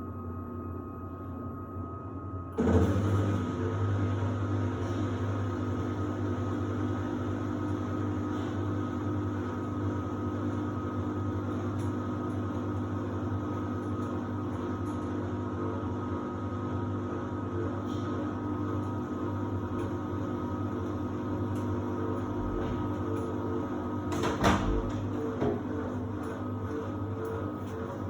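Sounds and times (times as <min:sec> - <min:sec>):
washer-dryer motor hum: 0:00.0 - 0:28.0.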